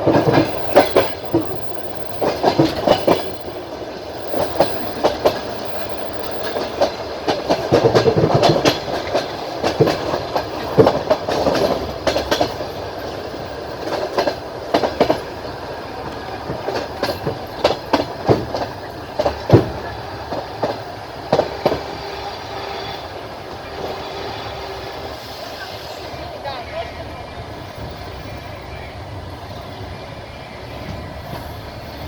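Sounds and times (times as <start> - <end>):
train wheels clacking over rail joints: 0.0 - 28.7
train rolling rumble: 0.0 - 32.0.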